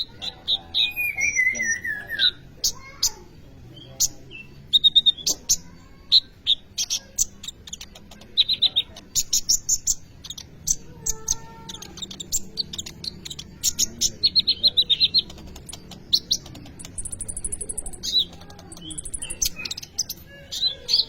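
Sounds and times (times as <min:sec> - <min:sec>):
bird chirping and trilling: 0:00.0 - 0:21.0.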